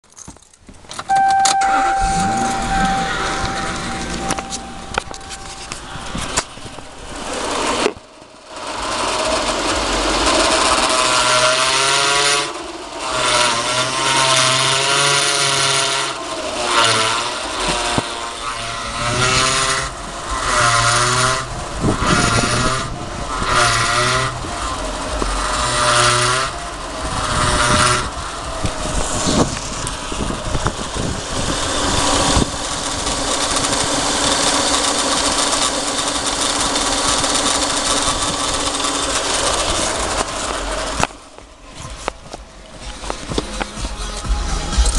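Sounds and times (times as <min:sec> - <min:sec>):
power steering pump whining: 0:00.8 - 0:44.9
car engine running: 0:01.1 - 0:44.9.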